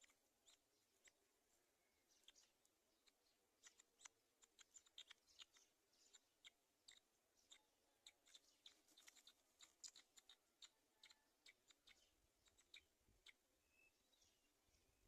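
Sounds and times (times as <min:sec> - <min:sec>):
bird clicks and chirps: 0:00.0 - 0:15.0.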